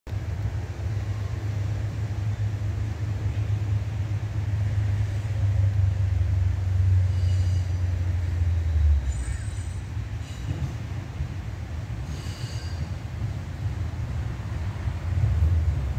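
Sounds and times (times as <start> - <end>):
distant train rumbling: 0.1 - 15.9.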